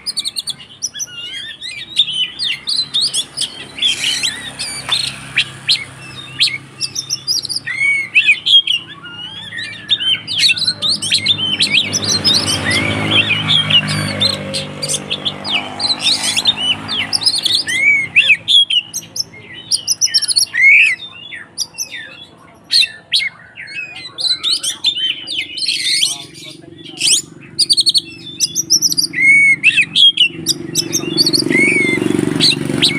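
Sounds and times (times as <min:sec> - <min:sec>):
bird singing chirps and whistles: 0:00.0 - 0:32.9.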